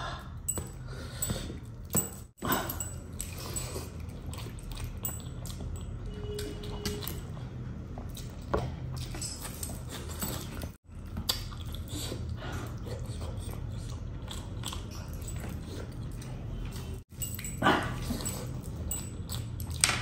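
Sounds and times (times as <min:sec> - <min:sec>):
wet chewing and lip-smacking: 0:03.0 - 0:19.8.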